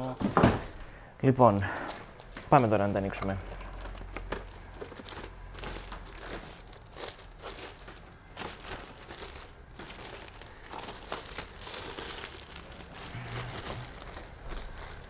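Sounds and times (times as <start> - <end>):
plastic bag crinkling: 2.1 - 15.0.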